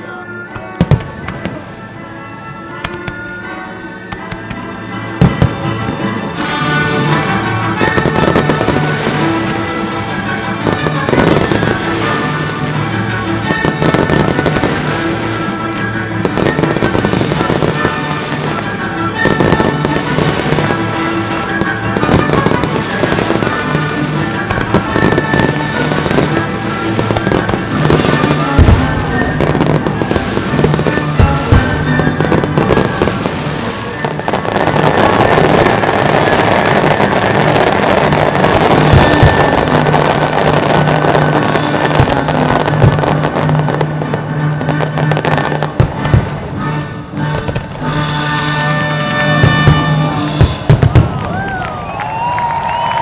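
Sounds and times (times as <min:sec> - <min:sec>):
music soundtrack: 0:00.0 - 0:53.0
fireworks bursting with sharp bangs: 0:00.5 - 0:03.4, 0:04.1 - 0:53.0.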